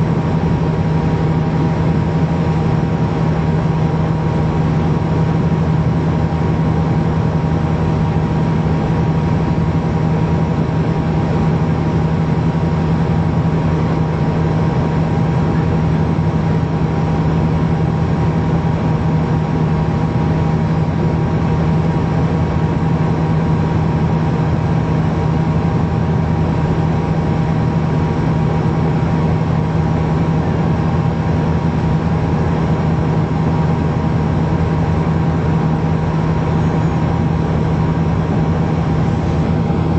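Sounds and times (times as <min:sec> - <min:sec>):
turboprop cabin drone: 0:00.0 - 0:39.9.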